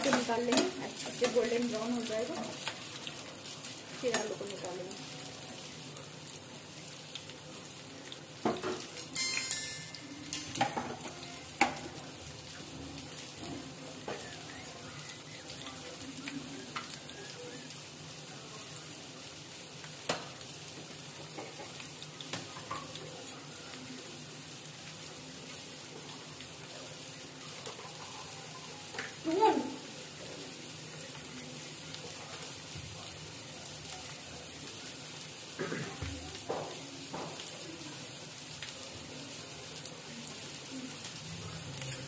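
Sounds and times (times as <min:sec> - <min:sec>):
potatoes sizzling in oil: 0:00.0 - 0:42.0.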